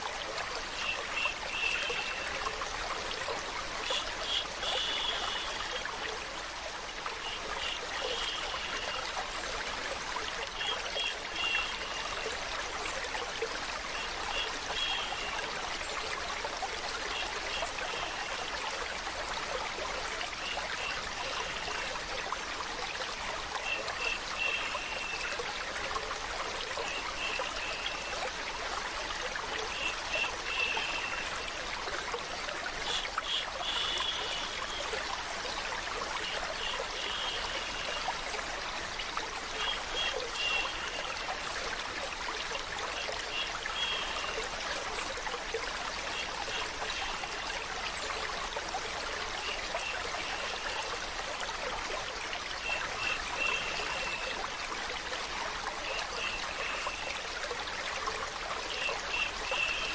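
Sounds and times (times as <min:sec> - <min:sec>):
stream of water trickling: 0:00.0 - 0:59.9.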